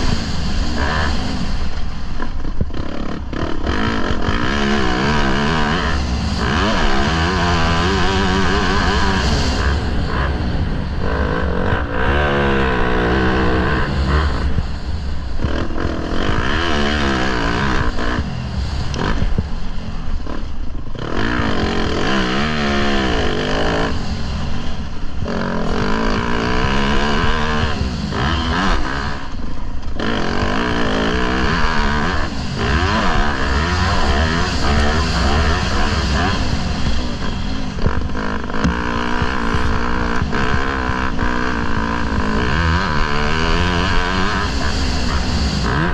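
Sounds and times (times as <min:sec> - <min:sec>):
motorbike engine revving: 0:00.0 - 0:45.9.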